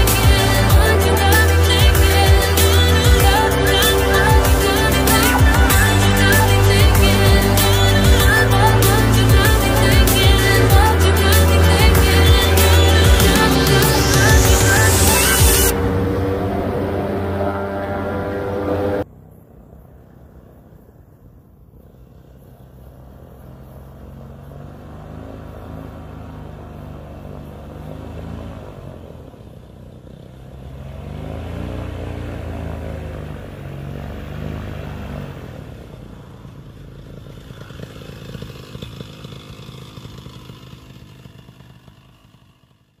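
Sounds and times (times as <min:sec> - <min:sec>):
paramotor engine running: 0:00.0 - 0:43.0.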